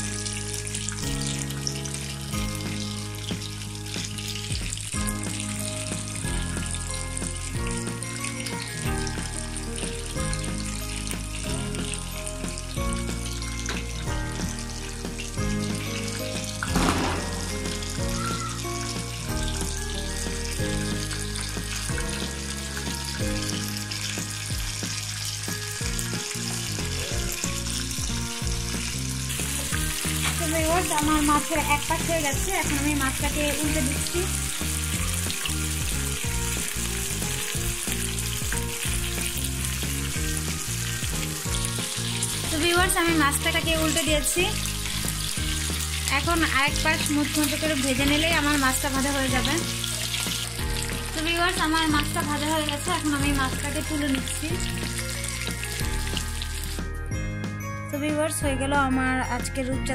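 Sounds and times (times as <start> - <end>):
fish sizzling in oil: 0.0 - 57.2
background music with chords: 0.0 - 59.9.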